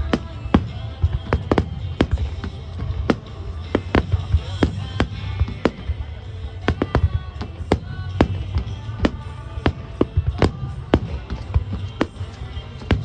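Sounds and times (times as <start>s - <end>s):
fireworks bursting: 0.0s - 13.0s
music playing: 0.0s - 13.0s.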